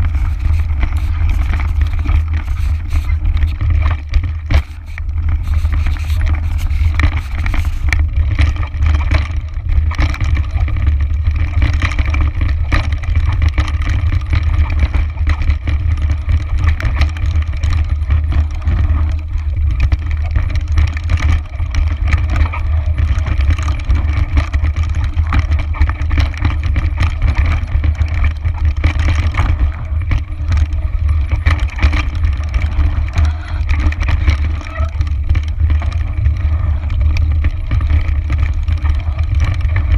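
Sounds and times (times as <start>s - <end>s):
bike rattling over rocks: 0.0s - 39.9s
wind buffeting microphone: 0.0s - 39.9s.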